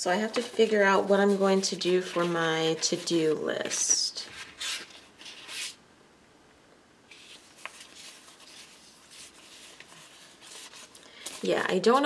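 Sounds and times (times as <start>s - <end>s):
paper sheets rustling: 0.2s - 5.8s, 7.1s - 12.0s.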